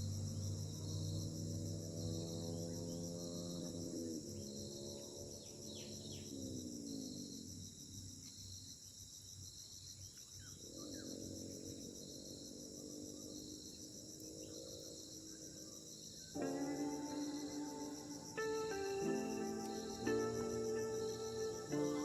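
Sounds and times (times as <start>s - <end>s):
high insect buzz: 0.0s - 22.0s
insects trilling in pulses: 0.0s - 22.0s.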